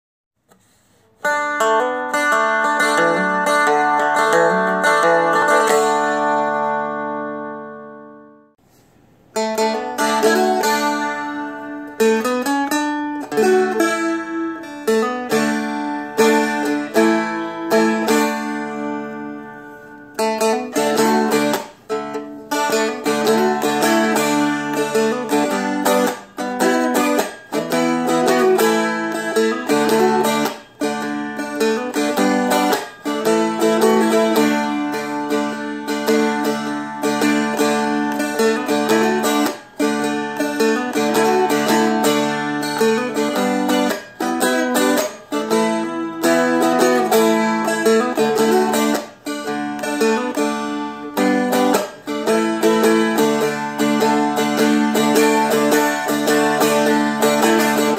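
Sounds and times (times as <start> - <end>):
picked string melody: 0.5 - 57.9
strummed chord: 9.4 - 57.9.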